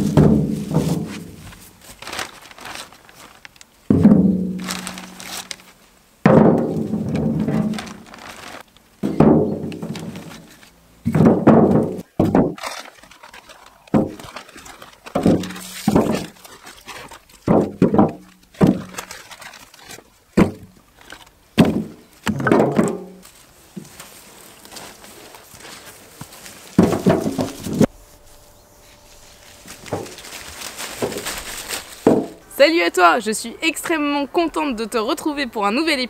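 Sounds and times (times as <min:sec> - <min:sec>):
logs thunking into a wheelbarrow: 0:00.0 - 0:03.3, 0:03.9 - 0:25.8, 0:26.4 - 0:27.9, 0:29.6 - 0:32.4.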